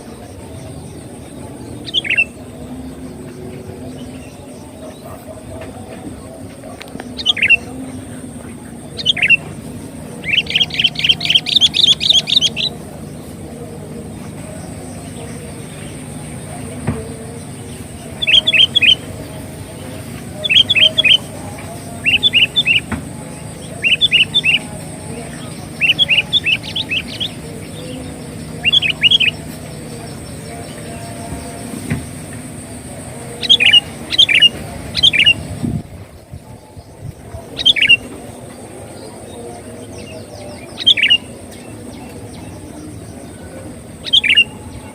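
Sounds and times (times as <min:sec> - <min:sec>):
bulbul song: 0:00.0 - 0:44.9.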